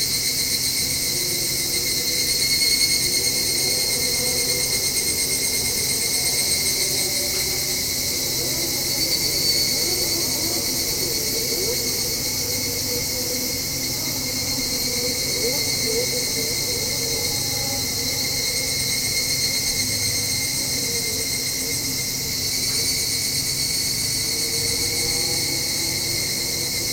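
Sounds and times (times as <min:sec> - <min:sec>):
cicadas ringing chorus: 0:00.0 - 0:26.9.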